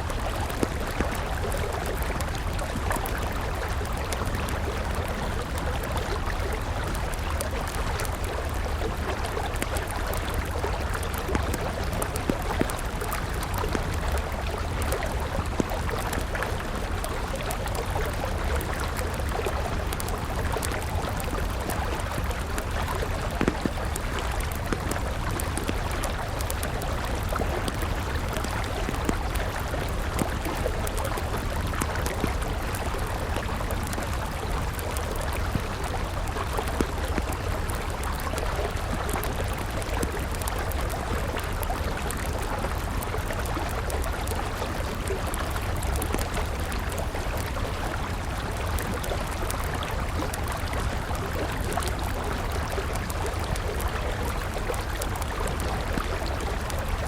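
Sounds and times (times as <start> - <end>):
campfire crackling and popping: 0.0 - 57.0
river flowing with low rumble: 0.0 - 57.0.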